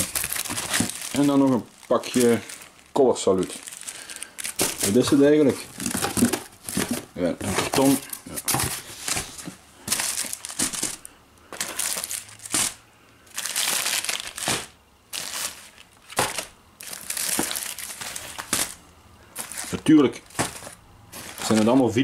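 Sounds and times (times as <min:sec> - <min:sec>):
cardboard and plastic crinkling: 0:00.0 - 0:22.0.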